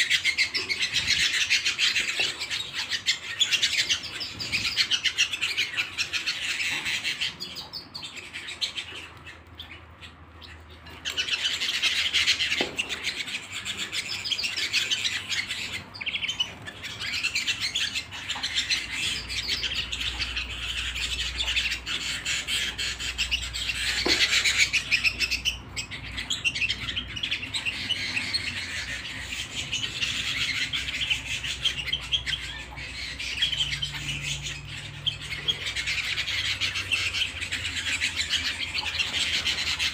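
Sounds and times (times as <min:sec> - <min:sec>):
canary trilling and chirping: 0:00.0 - 0:39.9.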